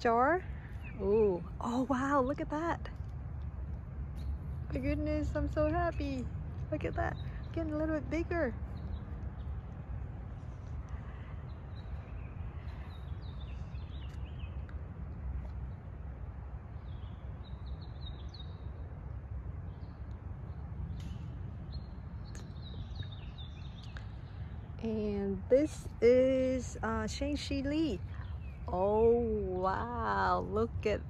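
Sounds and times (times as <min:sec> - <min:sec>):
birds chirping: 0:00.0 - 0:31.0
steady low rumble: 0:00.0 - 0:31.0.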